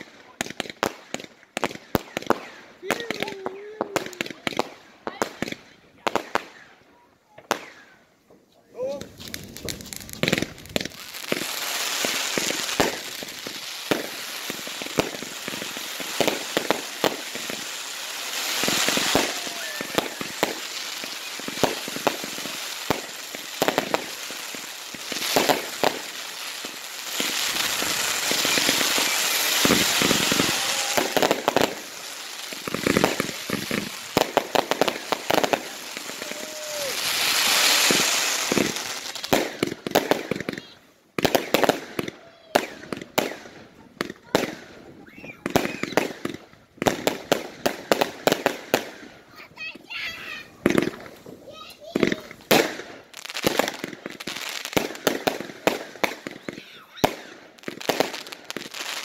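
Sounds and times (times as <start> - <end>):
fireworks bangs: 0.0 - 8.0, 8.8 - 59.0
fireworks crackling: 0.0 - 59.0
fireworks hissing: 8.8 - 59.0.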